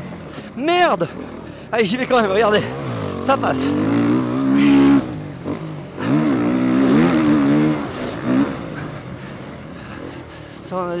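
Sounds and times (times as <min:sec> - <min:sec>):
motocross bike engine revving: 0:00.0 - 0:10.4.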